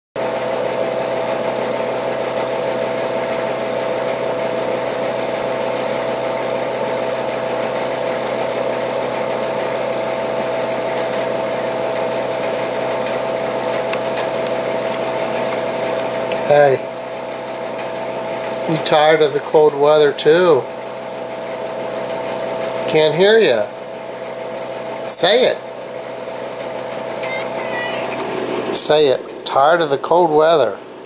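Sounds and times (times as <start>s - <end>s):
electric heater hum and whine: 0.2s - 31.0s.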